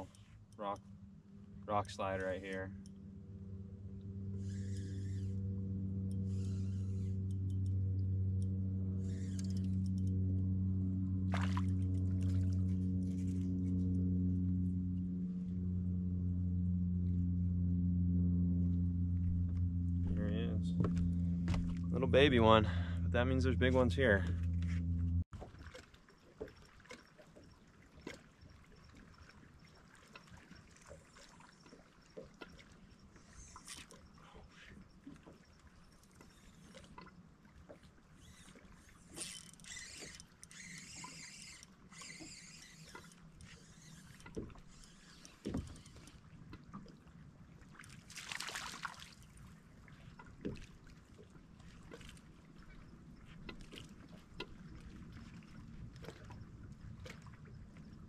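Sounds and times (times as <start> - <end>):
water lapping against hull: 0.0 - 17.5, 18.5 - 58.0.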